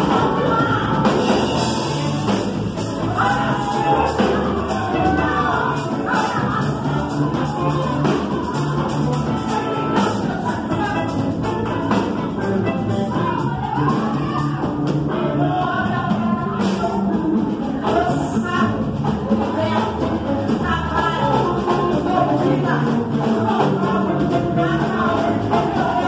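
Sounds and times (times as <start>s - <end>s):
woman singing through microphone: 0.0s - 12.3s, 13.1s - 26.0s
drum kit beat: 0.0s - 26.0s.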